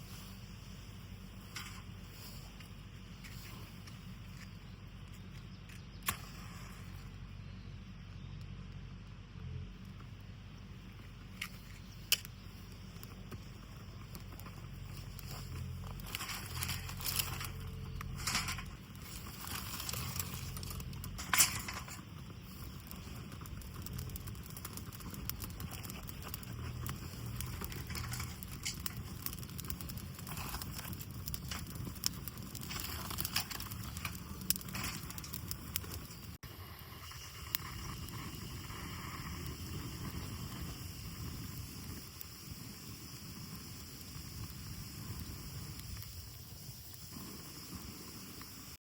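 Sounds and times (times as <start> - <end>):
campfire crackling and popping: 0.0 - 7.4, 9.8 - 48.8.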